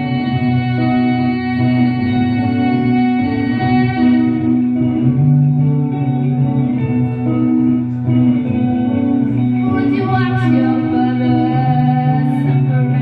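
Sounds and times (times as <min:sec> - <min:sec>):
guitar playing slow melody: 0:00.0 - 0:13.0.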